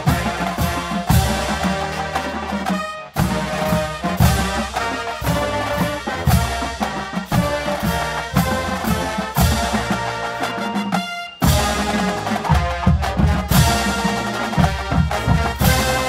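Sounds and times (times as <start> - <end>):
brass playing march tune: 0.0 - 16.0
marching drums: 0.0 - 16.0.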